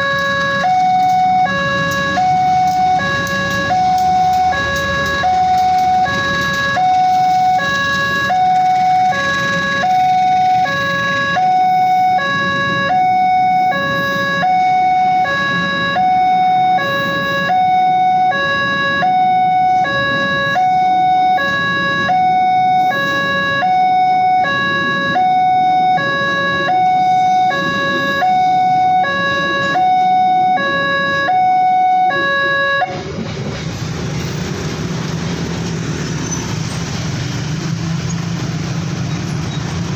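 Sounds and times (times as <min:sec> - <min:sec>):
level crossing two-tone alarm: 0:00.0 - 0:33.0.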